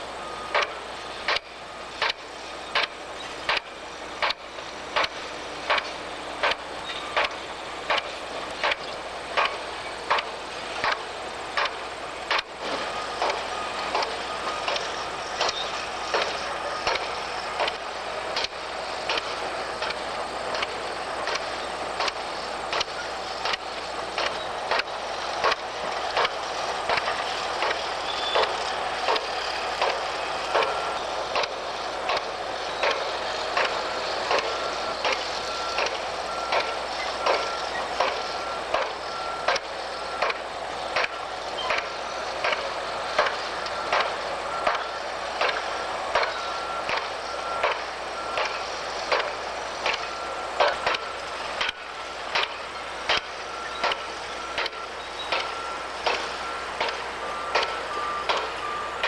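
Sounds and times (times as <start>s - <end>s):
machinery noise: 0.0s - 59.0s
vehicle reversing alarm beeping: 0.0s - 59.0s.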